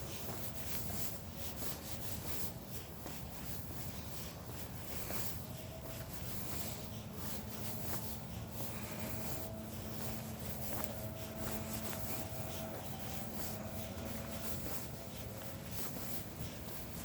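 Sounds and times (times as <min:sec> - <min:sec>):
faint steady hum: 0:00.0 - 0:17.0
footsteps through dry leaves: 0:00.0 - 0:17.0.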